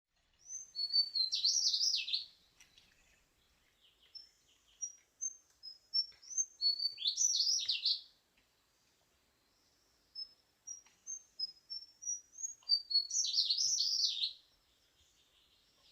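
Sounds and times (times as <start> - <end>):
songbird warbling: 0.4 - 8.1, 10.2 - 15.9.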